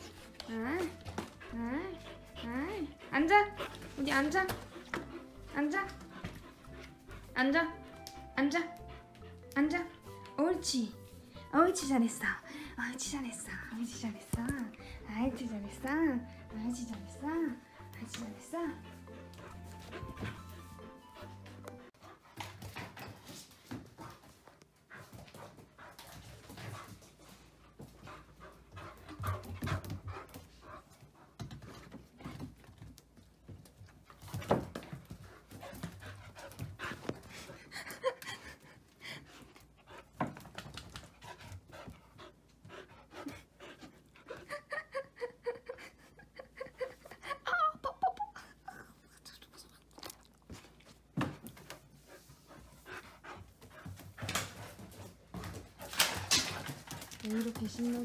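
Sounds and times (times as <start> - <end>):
puppy panting: 0.0 - 58.0.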